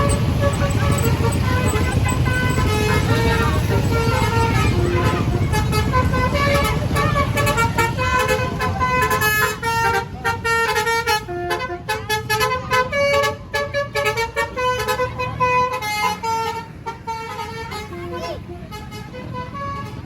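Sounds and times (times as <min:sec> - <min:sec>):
bus engine running: 0:00.0 - 0:20.0
bus horn playing a melody: 0:00.0 - 0:20.0.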